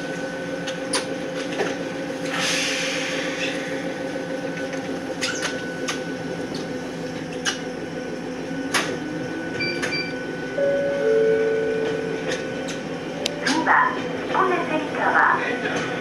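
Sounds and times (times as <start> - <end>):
electric train equipment humming: 0.0 - 16.0.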